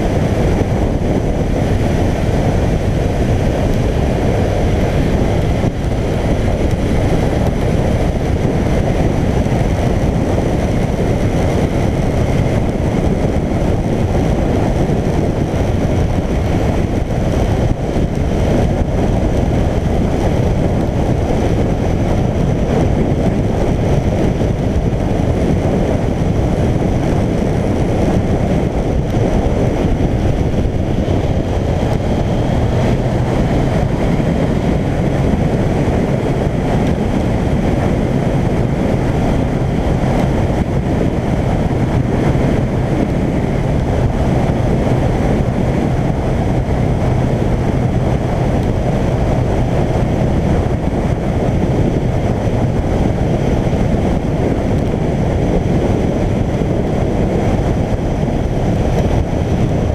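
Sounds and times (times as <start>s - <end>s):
motorcycle engine: 0.0s - 59.9s
road noise: 0.0s - 59.9s
wind rushing on microphone: 0.0s - 59.9s.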